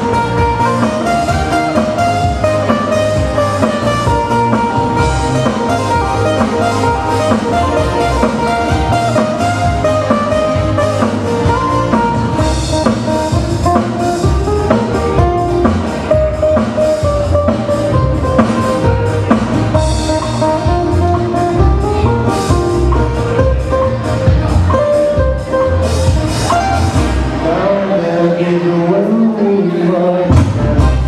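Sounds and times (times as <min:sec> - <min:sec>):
steady drum beat: 0:00.0 - 0:27.4
live band playing: 0:00.0 - 0:31.0.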